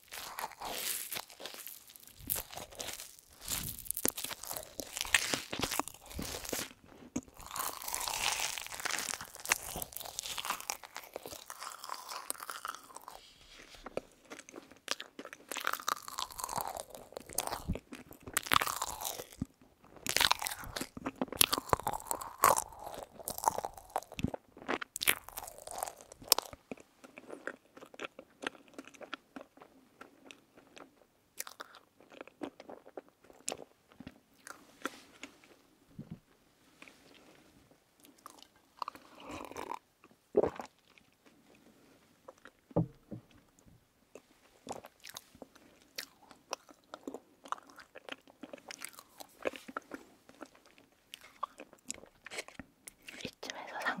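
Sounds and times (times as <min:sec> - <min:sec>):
chewing marshmallow with clicks: 0:00.0 - 0:35.6, 0:44.1 - 0:54.0.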